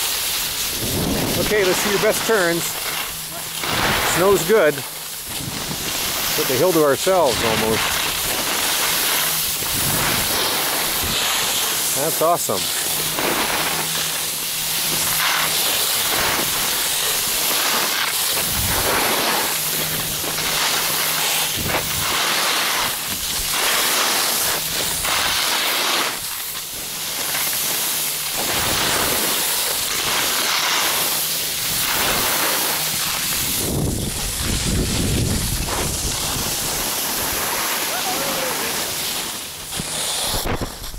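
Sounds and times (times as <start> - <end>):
skis scraping over snow: 0.0 - 40.9.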